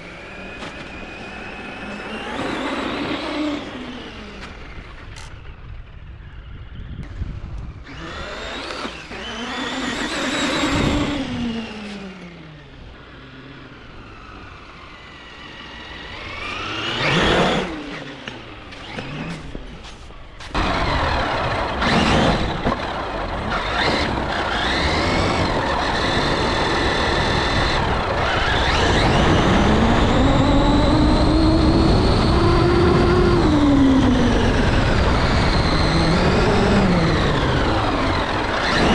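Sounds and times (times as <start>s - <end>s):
rc truck motor whining: 0.0s - 38.9s
tyre and drivetrain noise: 0.0s - 38.9s.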